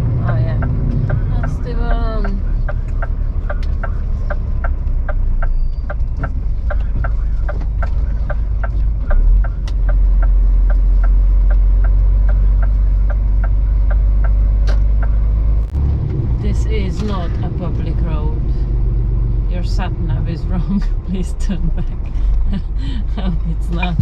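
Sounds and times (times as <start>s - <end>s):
diesel engine rumble: 0.0s - 24.0s
turn signal ticking: 0.0s - 24.0s.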